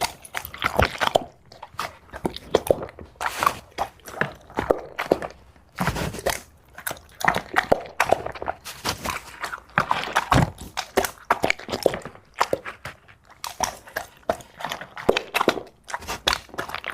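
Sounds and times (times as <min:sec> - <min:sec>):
food crunching while chewing: 0:00.0 - 0:16.9.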